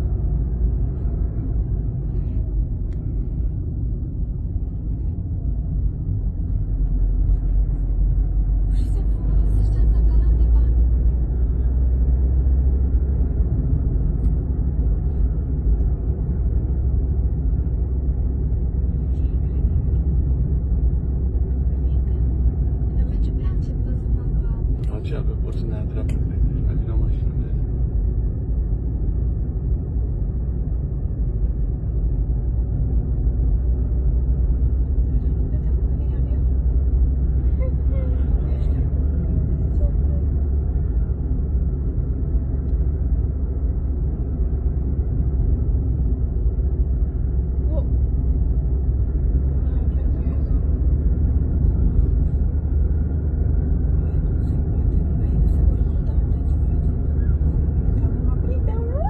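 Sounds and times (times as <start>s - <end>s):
car driving on road: 0.0s - 59.0s.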